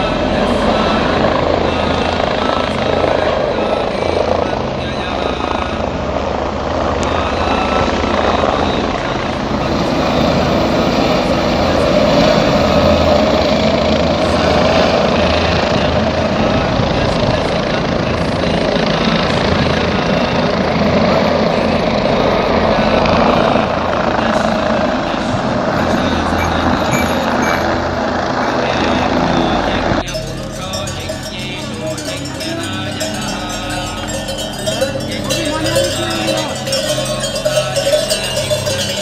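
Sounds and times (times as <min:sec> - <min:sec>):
helicopter engine and rotor drone: 0:00.0 - 0:39.0.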